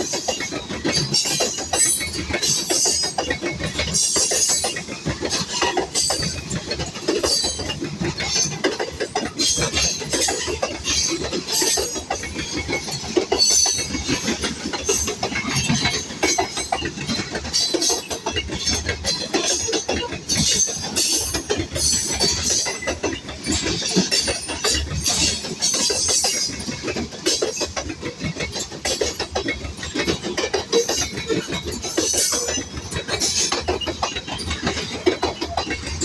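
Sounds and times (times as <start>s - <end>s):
train wheels clattering on rails: 0.0s - 36.0s.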